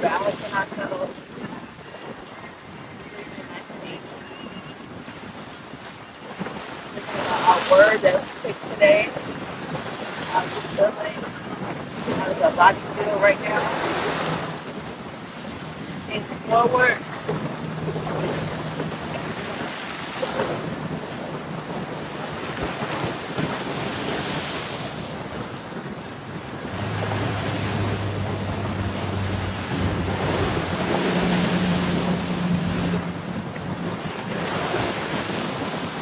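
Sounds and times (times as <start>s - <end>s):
wind on microphone: 0.0s - 36.0s.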